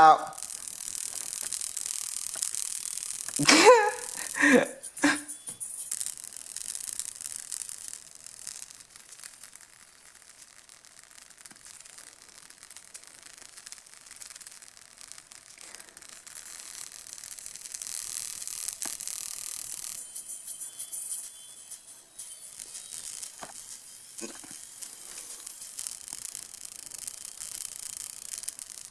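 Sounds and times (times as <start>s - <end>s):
blown earbud speaker crackling: 0.0s - 28.9s.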